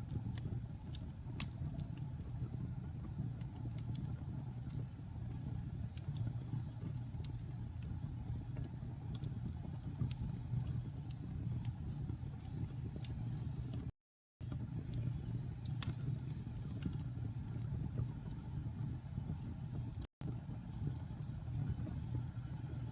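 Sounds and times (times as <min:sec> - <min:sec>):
low rumble of flames: 0:00.0 - 0:22.9
wood fire pops and snaps: 0:00.0 - 0:22.9.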